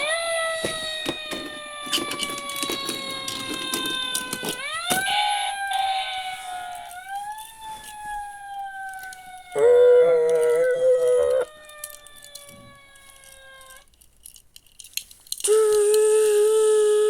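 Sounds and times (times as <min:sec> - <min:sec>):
fire engine siren wailing: 0:00.0 - 0:13.9.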